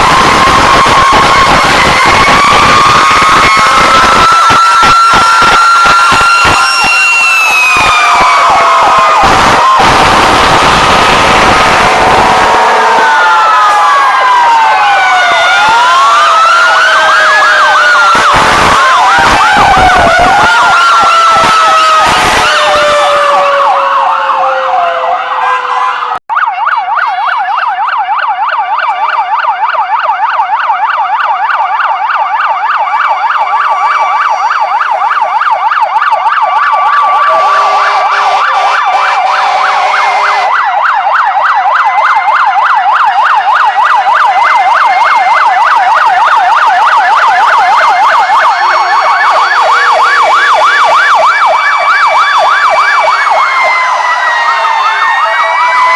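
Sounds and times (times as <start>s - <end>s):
fire truck siren wails: 0.0s - 55.9s
fire truck siren yelp: 0.0s - 55.9s.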